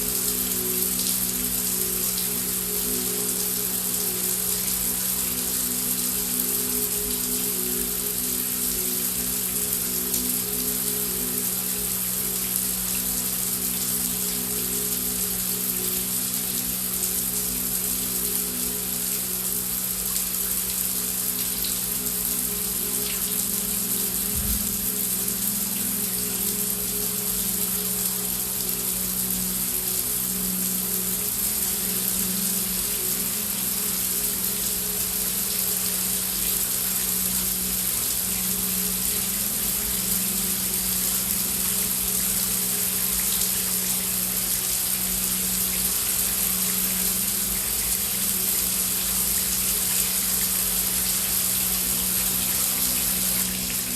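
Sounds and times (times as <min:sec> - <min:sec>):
droning background music: 0:00.0 - 0:53.9
heavy rain falling: 0:00.0 - 0:53.9.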